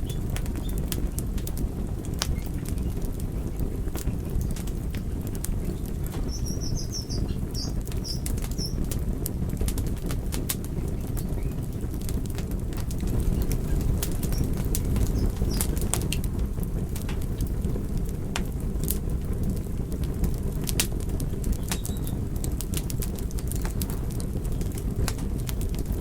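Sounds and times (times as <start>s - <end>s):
low rumble of flames: 0.0s - 26.0s
wood crackling and popping: 0.0s - 26.0s.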